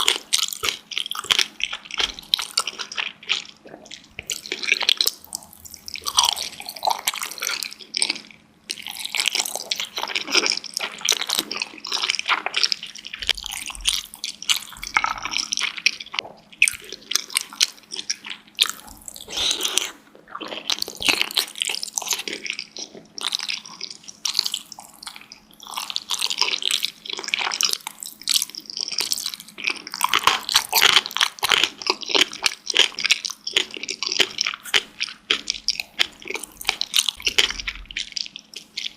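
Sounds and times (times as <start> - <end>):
wet chewing mouth sounds: 0.0 - 38.9.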